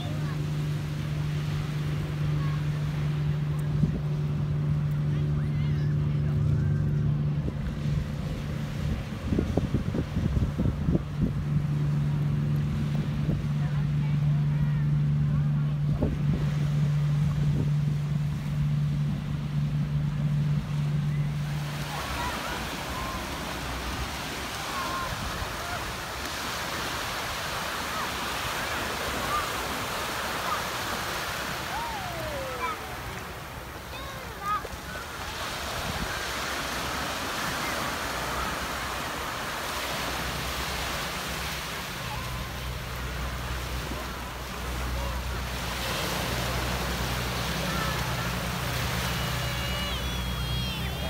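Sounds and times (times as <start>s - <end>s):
motorboat engine droning: 0.0s - 51.0s
waves breaking on beach: 0.0s - 51.0s.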